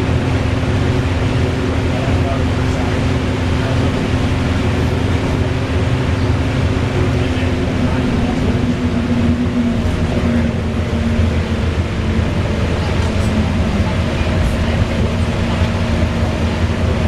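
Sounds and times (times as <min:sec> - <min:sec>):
bus engine rumble: 0:00.0 - 0:17.0
whirring whine: 0:00.0 - 0:17.0.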